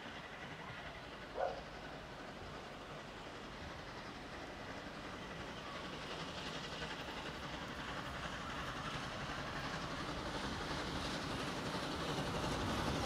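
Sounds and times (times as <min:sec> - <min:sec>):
steam train approaching: 0:00.0 - 0:13.0.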